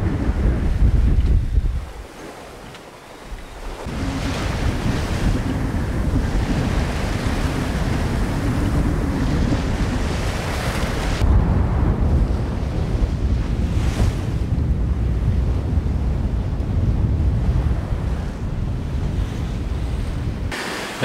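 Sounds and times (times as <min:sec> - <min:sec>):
waves rushing past boat: 0:00.0 - 0:21.0
wind buffeting microphone: 0:00.0 - 0:21.0.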